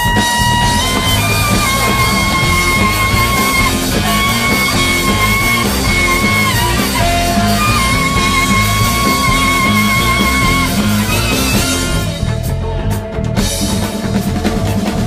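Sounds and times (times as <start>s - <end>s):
sliding high held note: 0.0s - 12.4s
repeating bass line: 0.0s - 14.6s.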